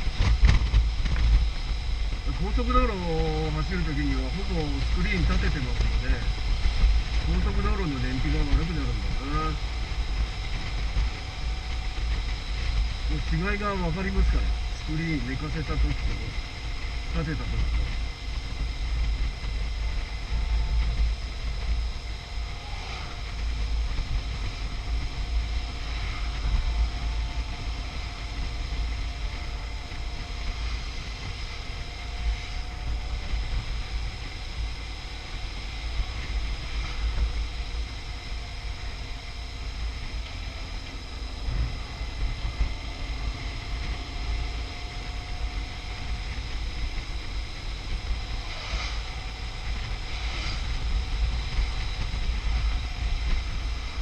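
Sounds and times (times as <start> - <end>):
motorcycle engine running: 0.0 - 54.0
road noise: 0.0 - 54.0
wind buffeting microphone: 0.0 - 54.0.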